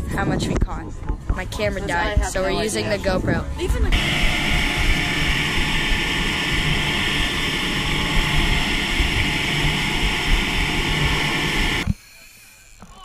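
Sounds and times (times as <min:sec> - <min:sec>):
outboard motors droning: 0:01.9 - 0:13.0.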